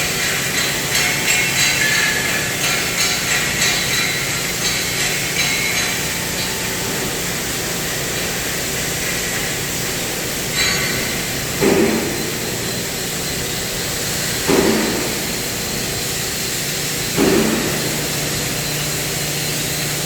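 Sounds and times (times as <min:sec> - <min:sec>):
machine hiss with low hum: 0:00.0 - 0:20.0.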